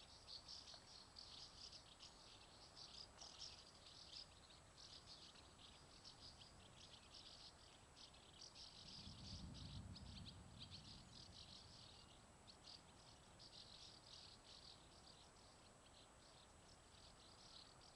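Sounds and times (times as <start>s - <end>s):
faint crickets chirping: 0.0s - 17.9s.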